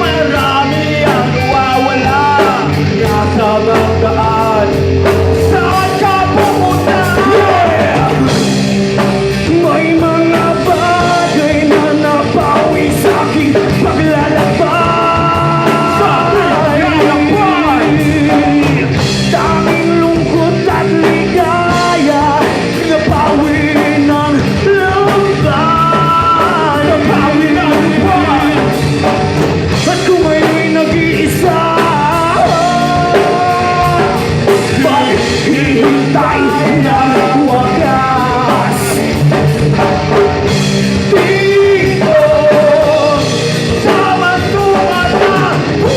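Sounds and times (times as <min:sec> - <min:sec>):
bass guitar: 0:00.0 - 0:45.9
drums: 0:00.0 - 0:45.9
electric guitar: 0:00.0 - 0:45.9
person singing lead vocal: 0:00.0 - 0:45.9.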